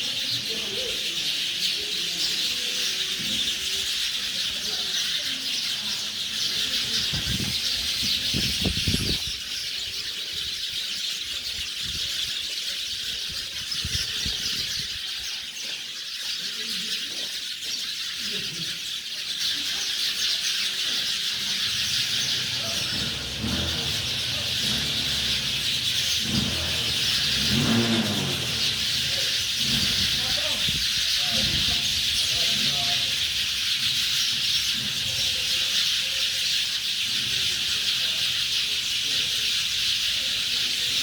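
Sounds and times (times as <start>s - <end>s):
flock of small birds chirping: 0.0s - 41.0s.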